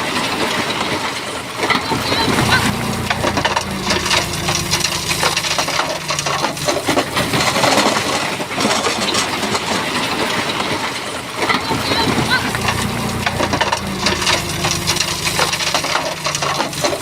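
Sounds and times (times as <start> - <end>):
bulldozer diesel engine running: 0.2 - 9.5, 11.2 - 17.0.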